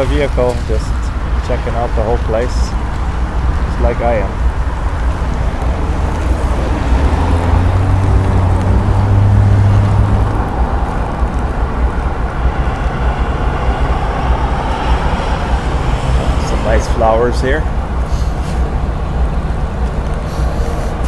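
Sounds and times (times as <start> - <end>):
car engine passing: 0.0 - 21.0
steady low rumble: 0.0 - 21.0.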